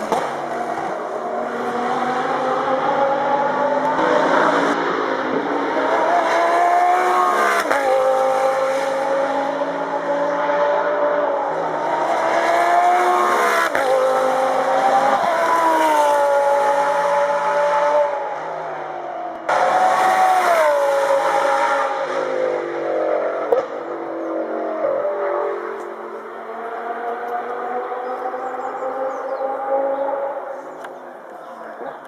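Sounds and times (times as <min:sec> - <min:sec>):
race car engine at high revs: 0:00.0 - 0:32.0.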